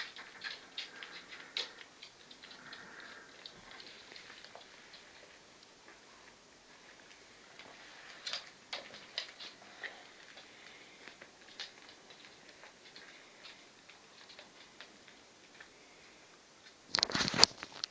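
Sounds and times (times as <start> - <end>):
puppies licking food: 0.0 - 15.8
puppies pattering on rug and paper: 0.0 - 15.8, 16.6 - 17.9.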